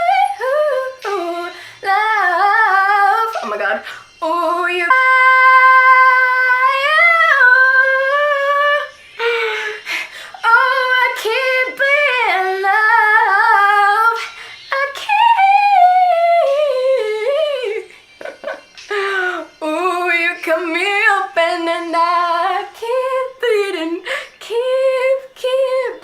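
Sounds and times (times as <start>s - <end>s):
woman singing solo: 0.0s - 26.0s.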